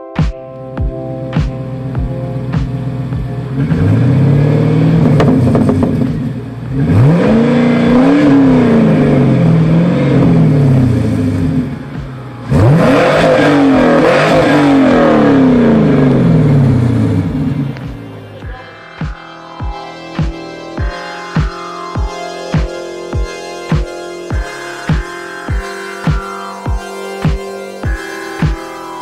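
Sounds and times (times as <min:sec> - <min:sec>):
car engine revving: 0:01.2 - 0:29.0.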